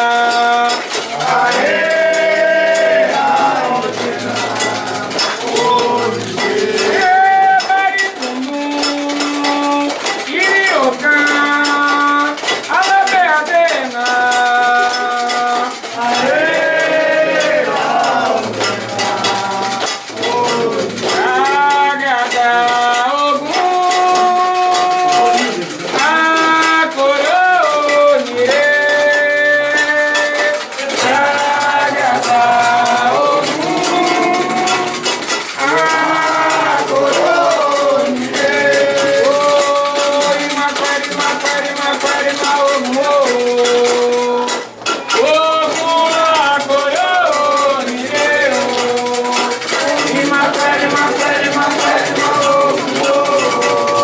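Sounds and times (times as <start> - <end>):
clanking metal bell: 0.0 - 54.0
shaken rattles: 0.0 - 54.0
voices chanting: 0.0 - 54.0.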